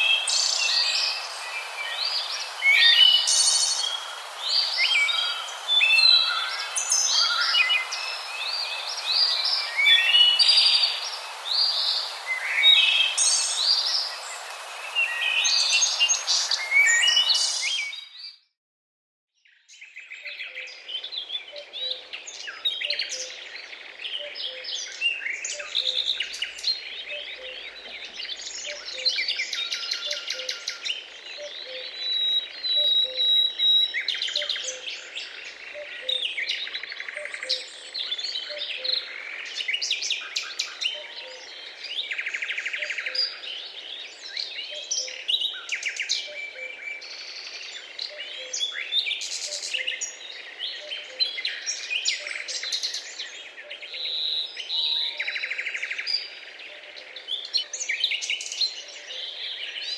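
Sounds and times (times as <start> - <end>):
small birds chirping and trilling: 0.0 - 18.4, 19.4 - 59.9.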